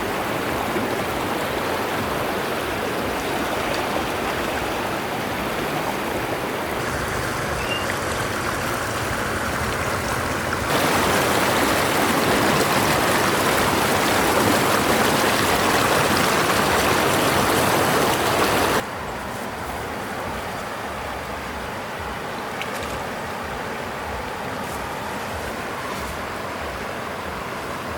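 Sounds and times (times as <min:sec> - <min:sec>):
stream water rushing: 0:00.0 - 0:27.9.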